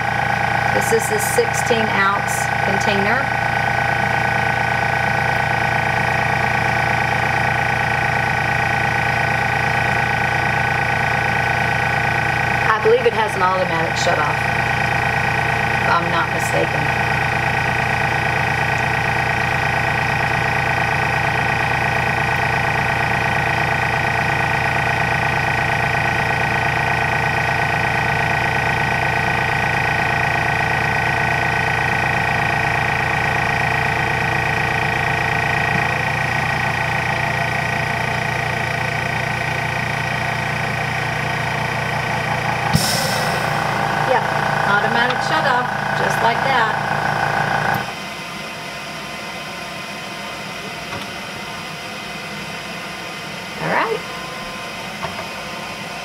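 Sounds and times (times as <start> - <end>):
juicer press humming and whining: 0.0 - 48.5.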